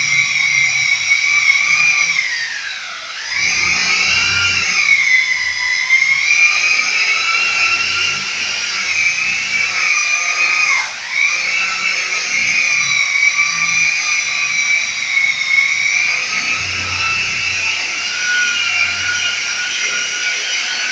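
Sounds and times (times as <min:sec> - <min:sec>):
power tool motor whining: 0:00.0 - 0:20.9.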